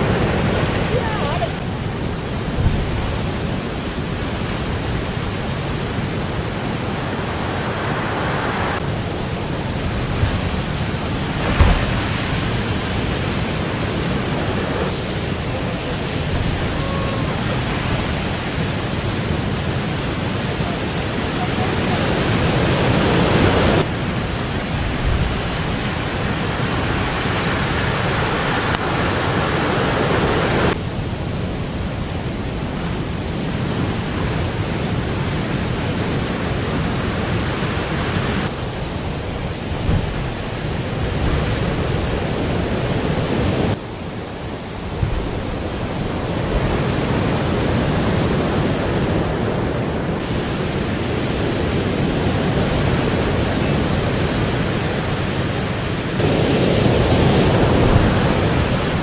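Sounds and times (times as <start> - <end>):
heavy surf breaking: 0.0 - 59.0
wind buffeting microphone: 0.0 - 59.0.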